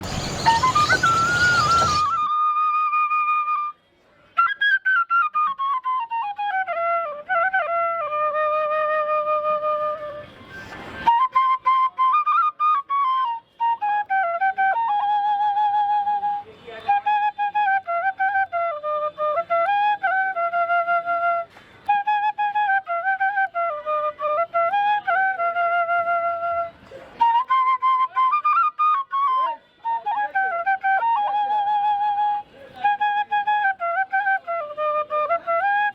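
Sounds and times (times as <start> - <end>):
solo flute melody: 0.0 - 35.9.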